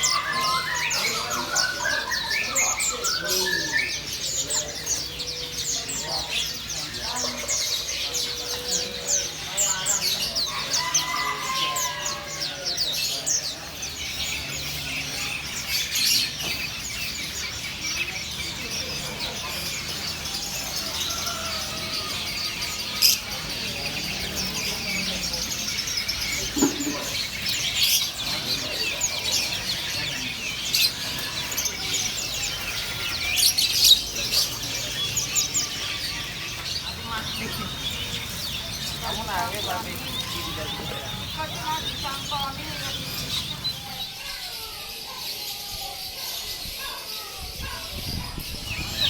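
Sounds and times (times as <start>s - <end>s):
sharp bird calls: 0.0s - 49.0s
songbirds chirping and trilling: 0.0s - 49.0s.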